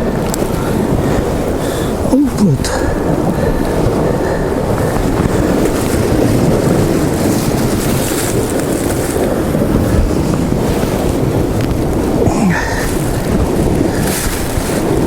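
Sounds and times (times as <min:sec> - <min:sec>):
sea washing: 0:00.0 - 0:15.0
wind on microphone: 0:00.0 - 0:15.0.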